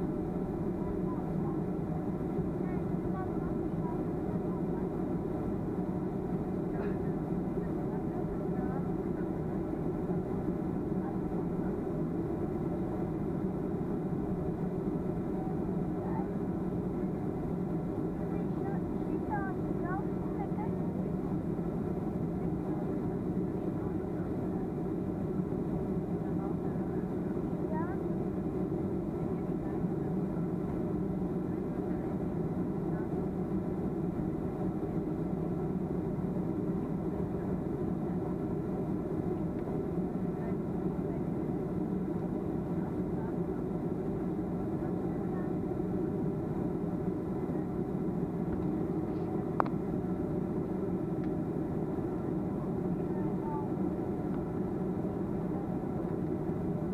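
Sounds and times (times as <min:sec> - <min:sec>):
airplane cabin engine drone: 0:00.0 - 0:56.9.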